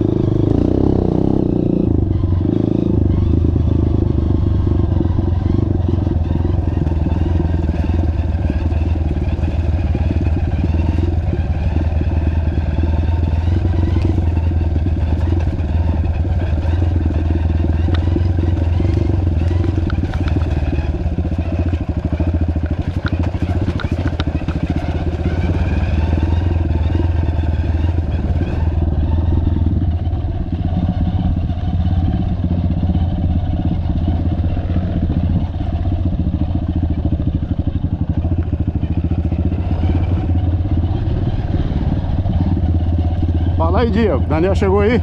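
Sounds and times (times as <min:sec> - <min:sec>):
vehicle engine running: 0:00.0 - 0:45.0.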